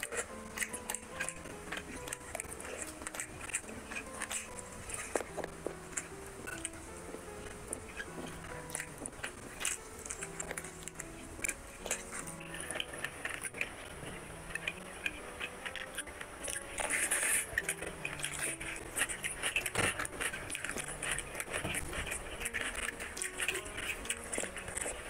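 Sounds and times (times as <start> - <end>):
fingers squishing rice: 0.0 - 25.0
soft background music: 0.0 - 25.0
wet chewing: 0.0 - 25.0.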